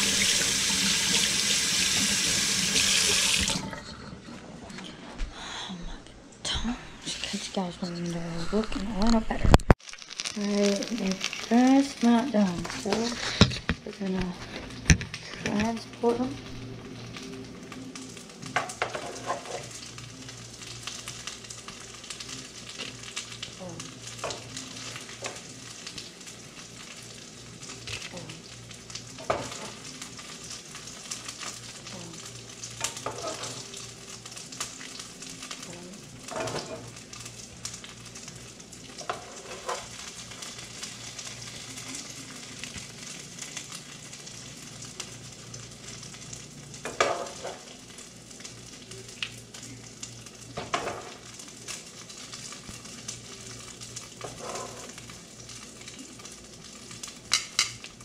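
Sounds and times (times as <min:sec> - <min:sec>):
meat sizzling in a pan: 0:00.0 - 0:03.6, 0:09.7 - 0:13.7, 0:14.5 - 0:58.0.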